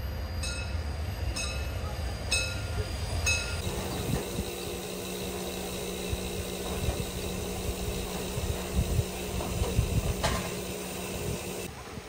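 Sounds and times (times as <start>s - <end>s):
locomotive hum and hiss: 0.0s - 12.0s
steam locomotive rumble: 0.0s - 12.0s.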